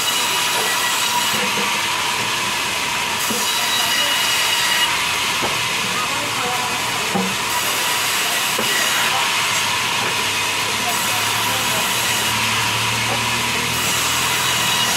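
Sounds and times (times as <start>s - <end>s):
band saw cutting log: 0.0s - 14.9s.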